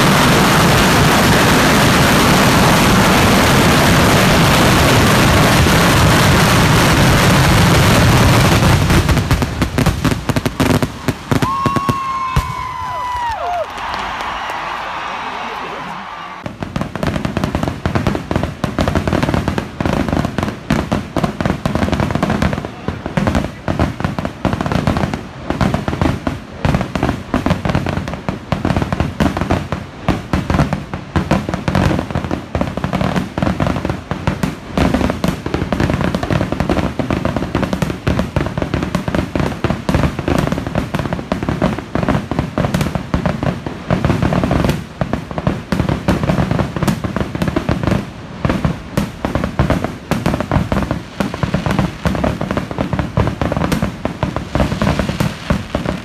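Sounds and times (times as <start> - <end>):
fireworks bangs and cracks: 0.0 - 56.0.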